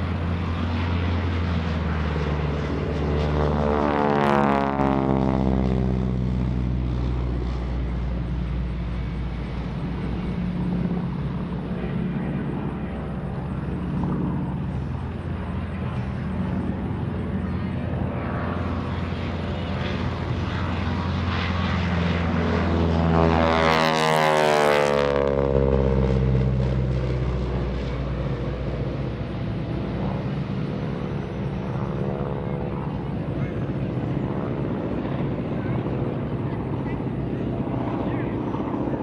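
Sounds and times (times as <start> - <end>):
plane flying by: 0.0 - 39.0
propeller plane engine drone: 0.0 - 39.0.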